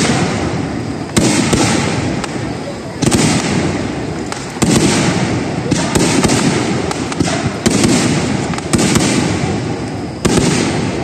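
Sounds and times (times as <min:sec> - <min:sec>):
firework pops and crackles: 0:00.0 - 0:11.0
firework shells booming: 0:00.0 - 0:11.0.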